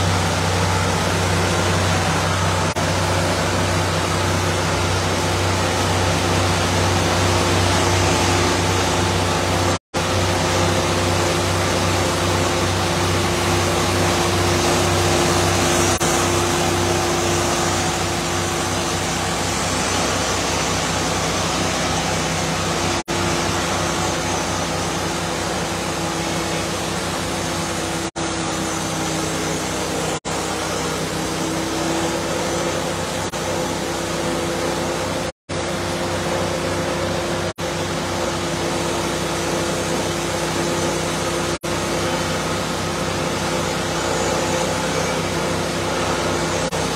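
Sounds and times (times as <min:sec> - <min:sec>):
bandsaw sawmill cutting log: 0:00.0 - 0:46.9.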